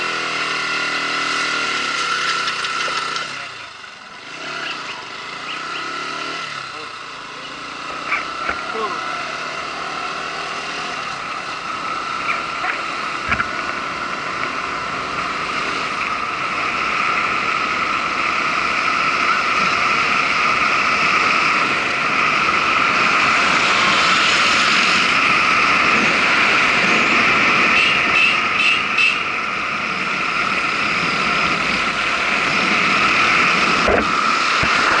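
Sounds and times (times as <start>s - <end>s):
motorcycle engine: 0.0s - 35.0s.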